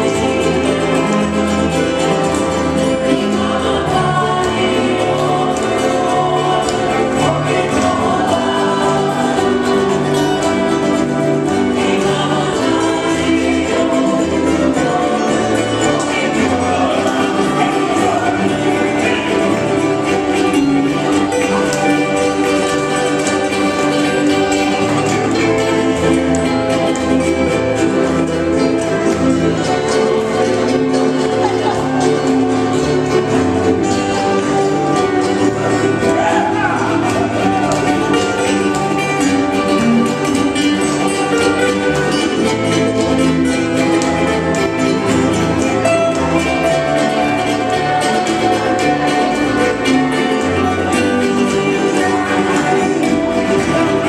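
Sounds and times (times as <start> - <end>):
strummed ukuleles: 0.0 - 54.0.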